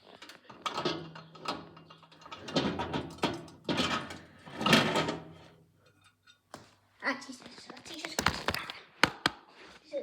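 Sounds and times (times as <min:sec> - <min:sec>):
clattering and scraping of objects: 0:00.0 - 0:06.8, 0:07.5 - 0:09.4.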